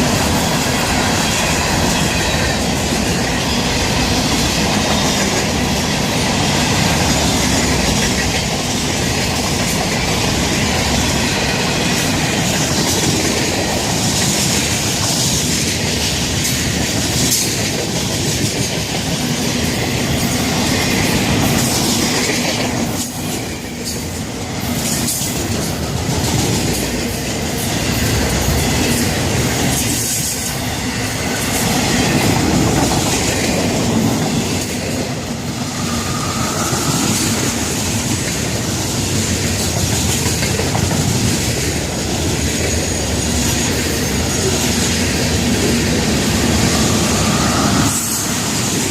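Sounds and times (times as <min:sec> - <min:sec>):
rumbling roar of steel on rail: 0:00.0 - 0:48.9
train wheels clacking over rail joints: 0:00.0 - 0:48.9.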